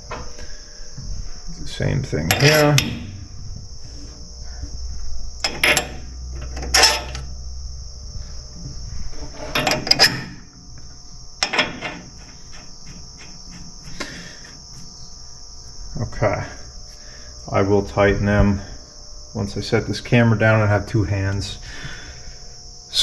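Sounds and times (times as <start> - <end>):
cricket chirring: 0.0 - 23.0.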